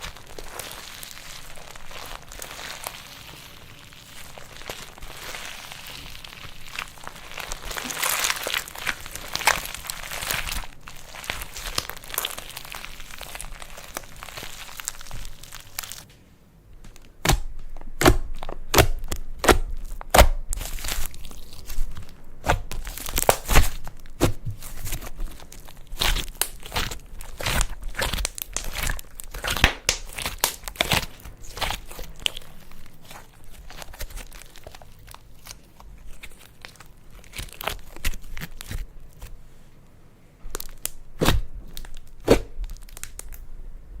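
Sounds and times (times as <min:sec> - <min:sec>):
slime crackling pops: 0:00.0 - 0:16.0, 0:22.4 - 0:38.8, 0:40.5 - 0:43.4
slime squished by hand: 0:00.0 - 0:16.1, 0:16.8 - 0:39.4, 0:40.5 - 0:43.4.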